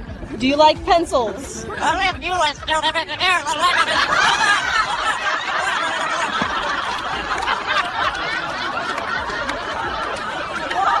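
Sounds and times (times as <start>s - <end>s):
people laughing: 1.4s - 11.0s.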